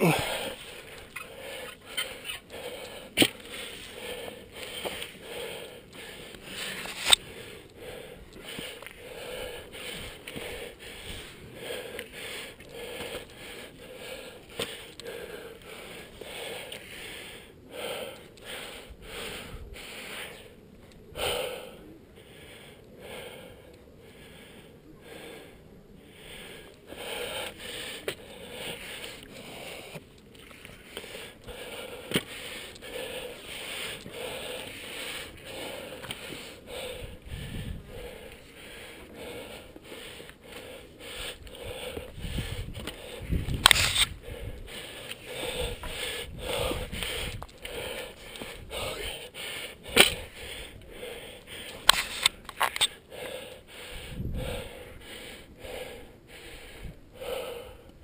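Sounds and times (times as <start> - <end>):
heavy breathing: 0.0 - 58.0.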